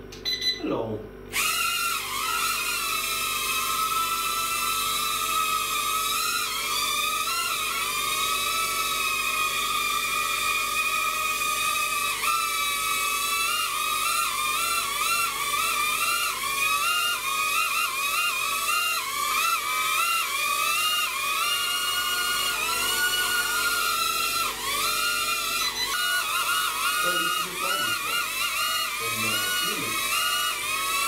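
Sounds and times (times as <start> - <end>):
toy aircraft motors whining: 1.3 - 31.0.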